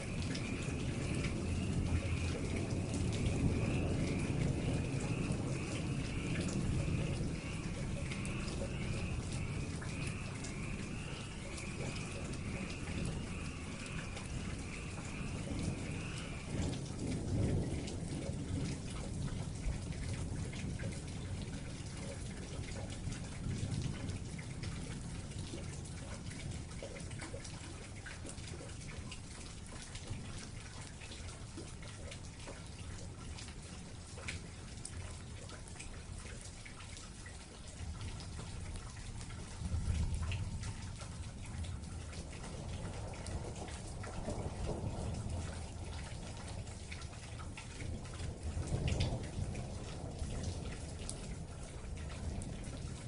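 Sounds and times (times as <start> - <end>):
rain falling: 0.0 - 53.0
raindrops pattering: 0.0 - 53.0.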